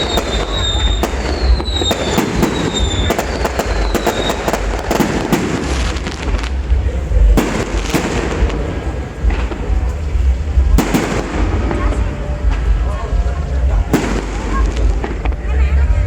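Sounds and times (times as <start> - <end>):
fireworks bangs and crackling: 0.0 - 16.0
low rumble: 0.0 - 16.0.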